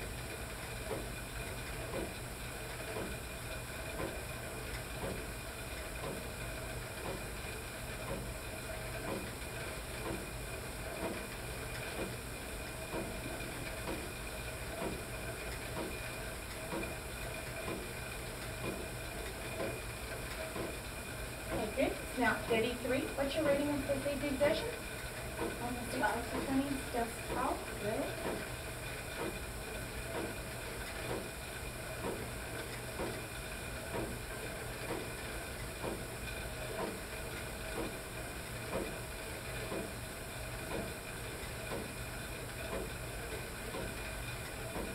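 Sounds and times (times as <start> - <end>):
exercise bike whirring: 0.0 - 44.9
rhythmic pedal strokes: 0.0 - 44.9.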